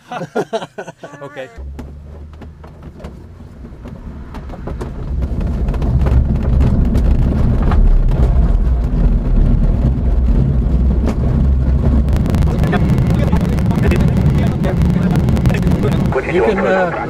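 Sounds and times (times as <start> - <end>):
wind rumble in cockpit: 1.6 - 17.0.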